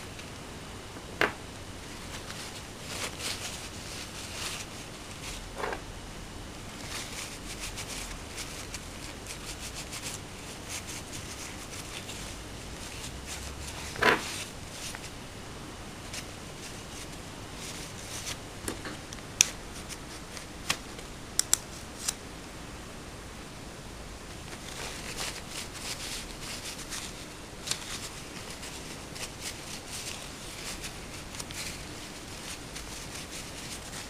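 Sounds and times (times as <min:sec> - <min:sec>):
paper tissue rustling: 0:01.6 - 0:05.9, 0:06.6 - 0:15.2, 0:16.0 - 0:18.4, 0:19.4 - 0:22.2, 0:24.4 - 0:34.0.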